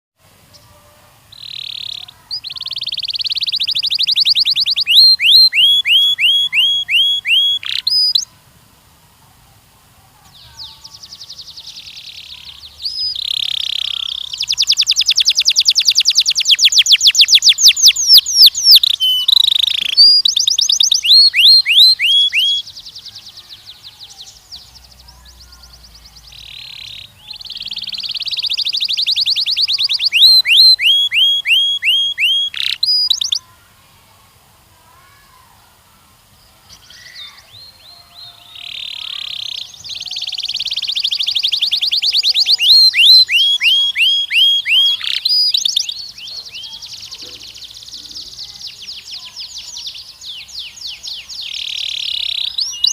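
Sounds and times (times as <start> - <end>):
canary singing in rapid trills: 0.5 - 8.3, 10.4 - 33.6, 36.6 - 52.9.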